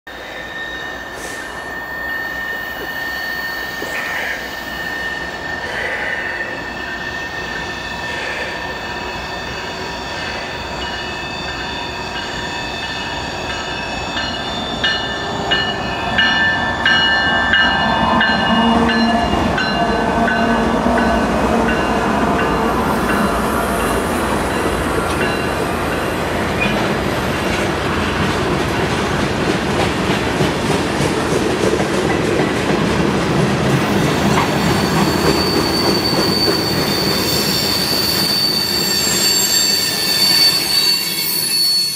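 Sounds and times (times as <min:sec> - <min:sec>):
wheel and rail squeal: 0:00.1 - 0:28.2, 0:33.8 - 0:41.9.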